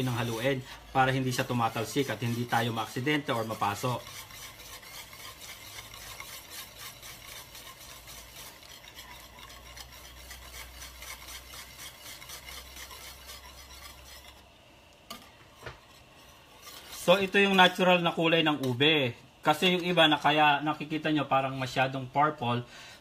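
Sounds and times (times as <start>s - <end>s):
whisk scraping a steel pan: 0.0s - 22.5s.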